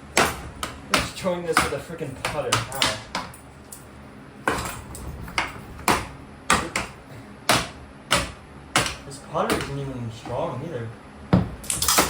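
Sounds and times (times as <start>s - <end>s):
putter striking ceiling fan: 0.0s - 3.8s, 4.4s - 10.4s.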